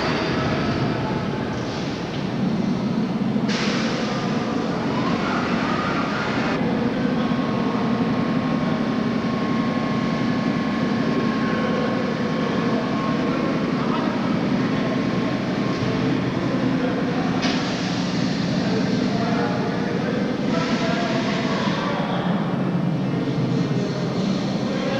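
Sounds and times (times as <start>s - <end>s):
subway train rumbling: 0.0s - 24.9s.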